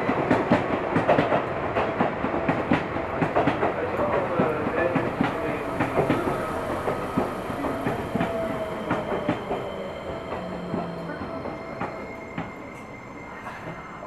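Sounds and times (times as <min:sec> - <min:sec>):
electric train rolling slowly: 0:00.0 - 0:14.0.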